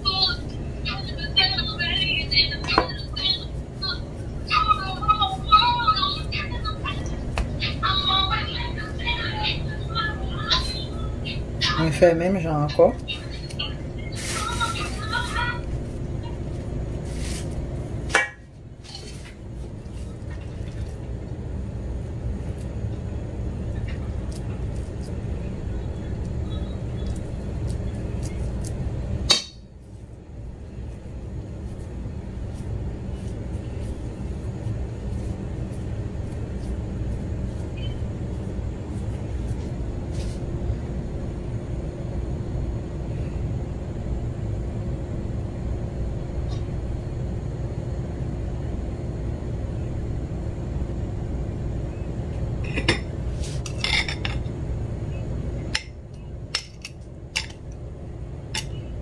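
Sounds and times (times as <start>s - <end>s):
low kitchen rumble: 0.0s - 59.0s.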